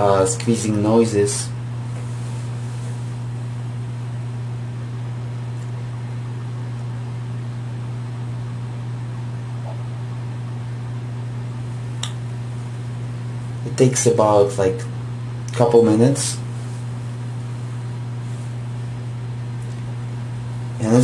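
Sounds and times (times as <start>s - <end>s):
disc drive whirring hum: 0.0s - 21.0s.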